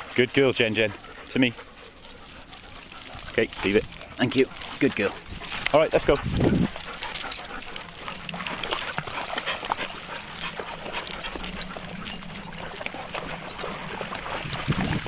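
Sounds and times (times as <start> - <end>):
dogs panting: 0.0 - 15.0
footsteps crunching on gritty ground: 0.0 - 15.0.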